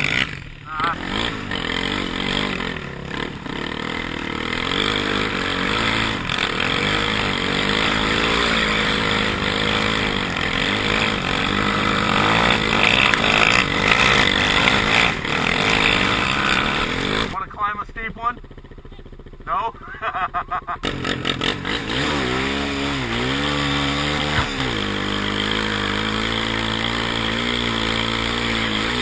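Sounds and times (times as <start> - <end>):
quad bike engine revving: 0.0 - 29.0.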